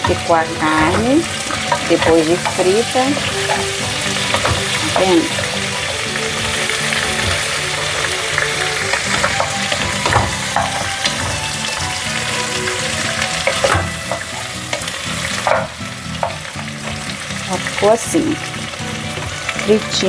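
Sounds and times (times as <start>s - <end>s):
wooden spoon scraping and knocking pot: 0.0s - 17.2s
meat sizzling in hot oil: 0.0s - 20.0s.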